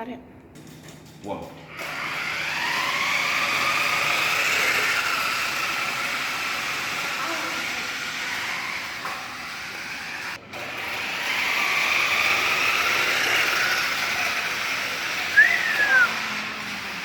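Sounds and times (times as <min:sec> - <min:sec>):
toy car motors whirring: 0:01.7 - 0:17.0.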